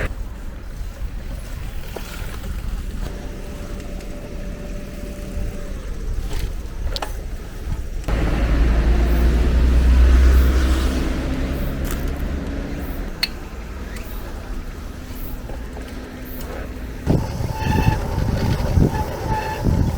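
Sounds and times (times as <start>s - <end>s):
street ambience rumble: 0.0s - 19.9s.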